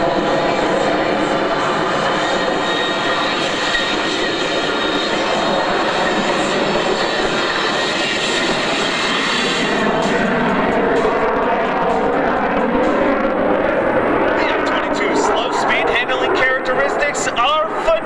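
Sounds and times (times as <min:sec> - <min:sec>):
loud jet engine noise: 0:00.0 - 0:18.0.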